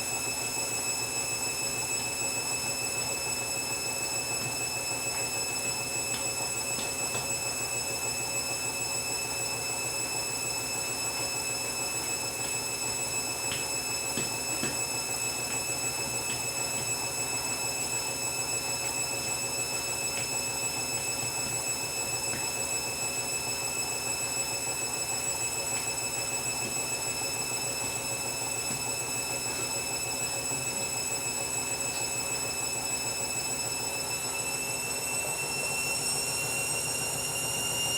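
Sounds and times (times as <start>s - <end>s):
washing machine motor hum: 0.0s - 37.9s.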